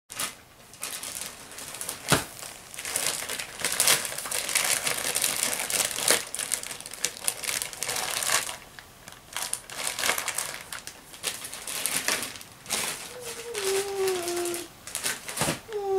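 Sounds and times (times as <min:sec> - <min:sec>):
plastic bags crinkling: 0:00.1 - 0:15.9.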